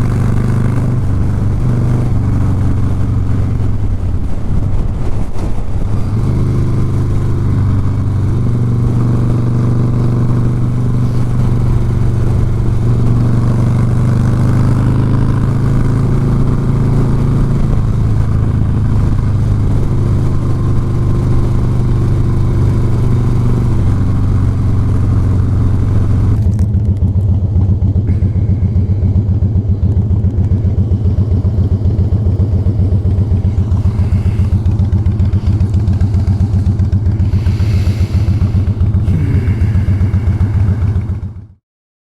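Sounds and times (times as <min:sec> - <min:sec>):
motorcycle engine running: 0:00.0 - 0:41.6.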